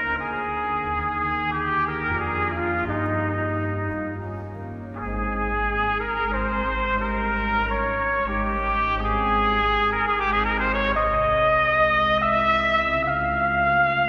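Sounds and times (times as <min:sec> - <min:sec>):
deep organ notes: 0:00.0 - 0:14.0
trumpet playing slow melody: 0:00.0 - 0:14.0.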